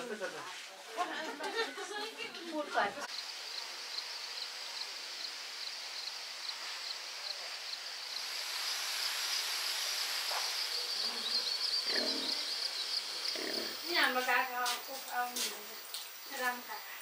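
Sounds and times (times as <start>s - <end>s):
high insect trill: 3.1s - 17.0s
insects chirping: 3.1s - 17.0s.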